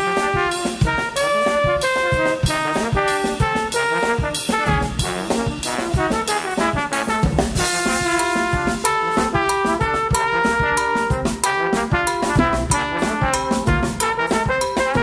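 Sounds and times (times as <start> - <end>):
drum kit hits: 0.0 - 15.0
trombones playing a duet: 0.0 - 15.0.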